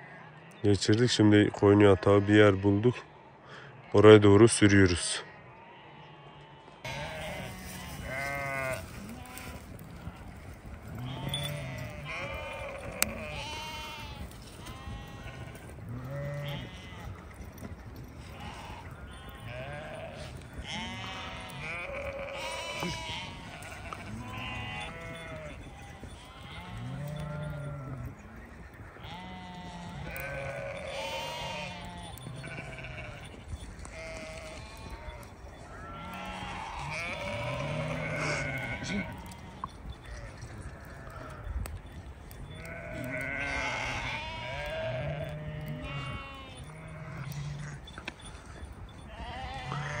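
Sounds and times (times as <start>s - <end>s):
sheep bleating: 5.2s - 50.0s.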